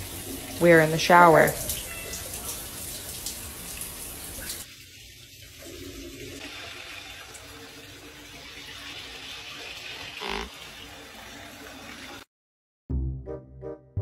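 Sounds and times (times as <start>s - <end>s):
shower running: 0.0s - 12.3s.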